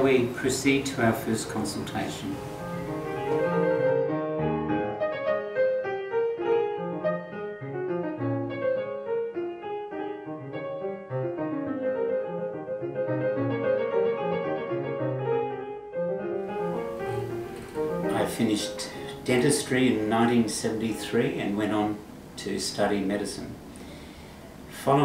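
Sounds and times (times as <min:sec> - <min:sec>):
piano music: 0:00.0 - 0:22.3.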